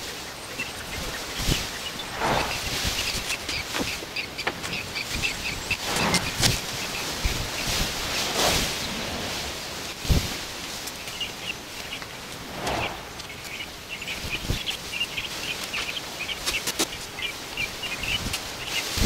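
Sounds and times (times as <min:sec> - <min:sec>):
bird chirping: 0:00.0 - 0:09.0, 0:11.0 - 0:19.0.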